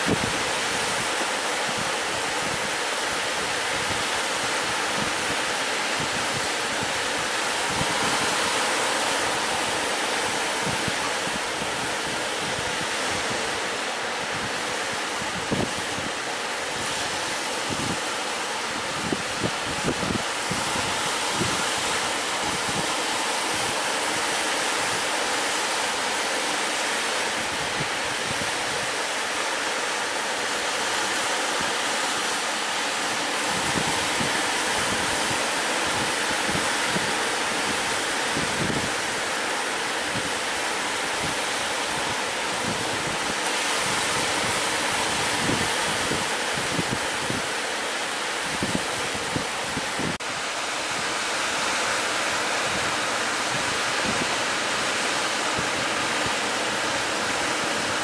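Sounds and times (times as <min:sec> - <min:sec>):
wind buffeting microphone: 0:00.0 - 0:26.1, 0:27.2 - 0:58.0
sea waves: 0:00.0 - 0:58.0.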